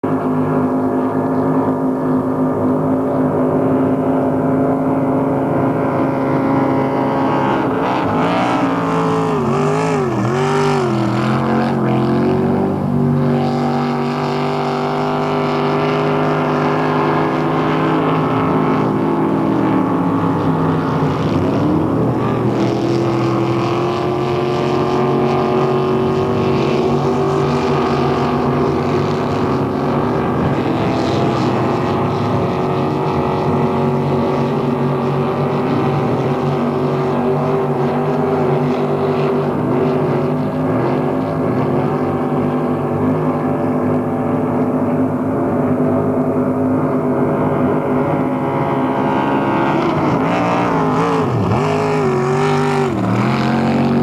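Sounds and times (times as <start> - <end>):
motorboat engines running: 0.0 - 54.0.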